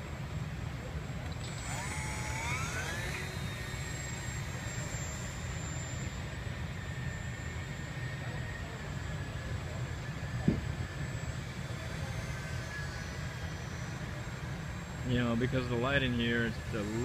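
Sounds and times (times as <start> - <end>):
steady low hum: 0.0 - 17.0
model plane motor whining: 1.2 - 17.0.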